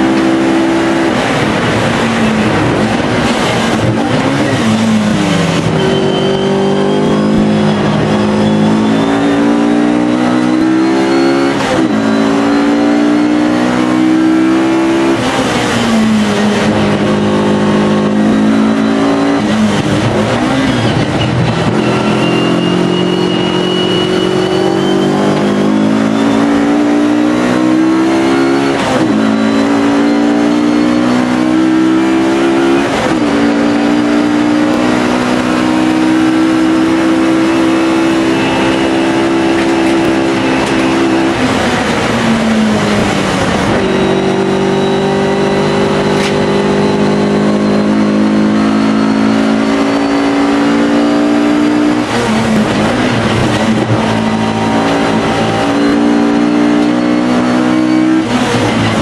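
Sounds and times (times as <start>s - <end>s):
race car engine shifting gears: 0.0s - 59.0s.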